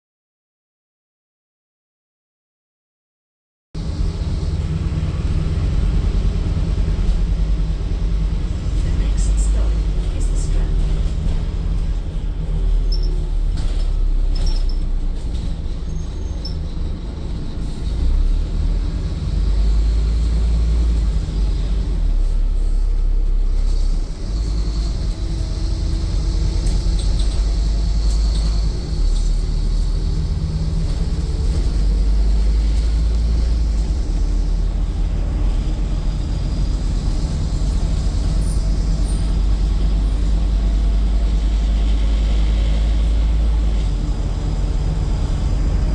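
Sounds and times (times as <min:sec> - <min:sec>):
bus engine droning: 0:03.8 - 0:45.9.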